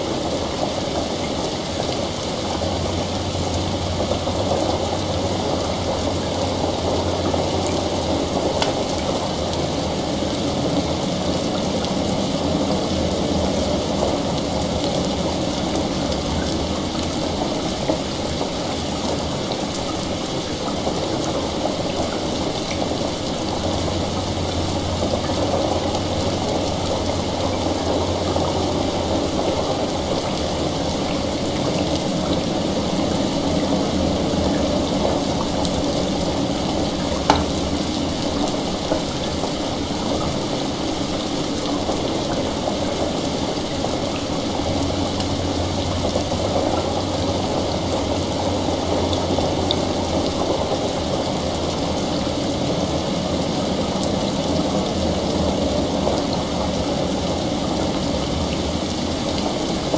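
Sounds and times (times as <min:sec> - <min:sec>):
heavy rain: 0:00.0 - 0:59.9
running water: 0:00.0 - 0:59.9.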